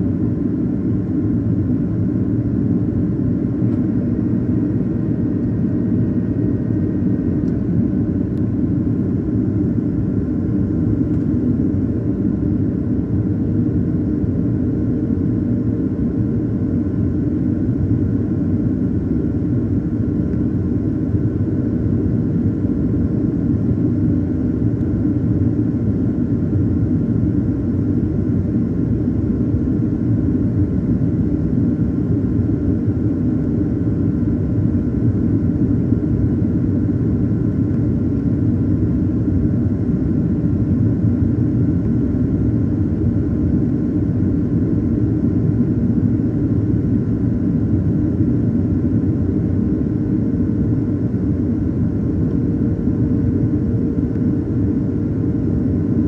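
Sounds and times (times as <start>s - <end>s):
faint steady hum: 0.0s - 56.0s
jet engines low rumble: 0.0s - 56.0s.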